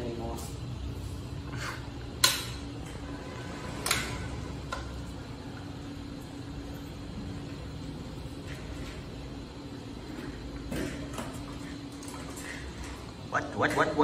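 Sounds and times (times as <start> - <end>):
low indoor hum: 0.0 - 14.0.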